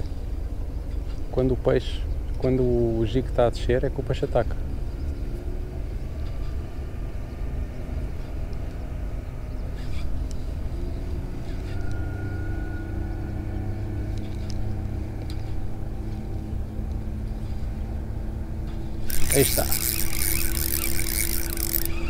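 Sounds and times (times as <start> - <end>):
faint engine hum: 0.0 - 22.0.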